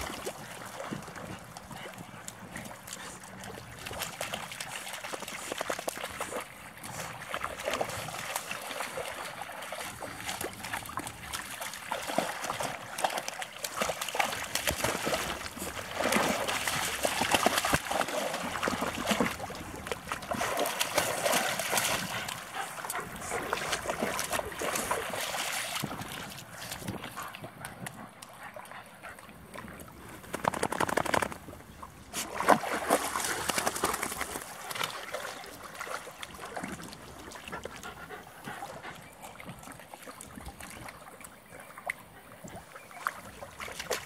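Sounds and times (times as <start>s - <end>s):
dogs splashing through water: 0.0s - 44.0s.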